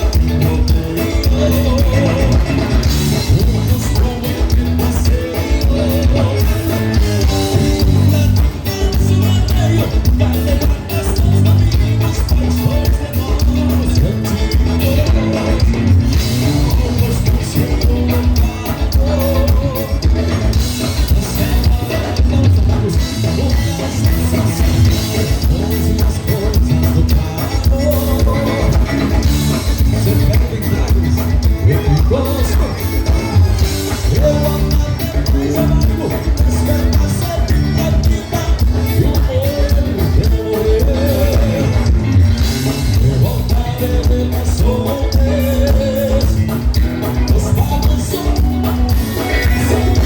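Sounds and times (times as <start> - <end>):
live band music: 0.0 - 50.0
person singing: 0.0 - 50.0.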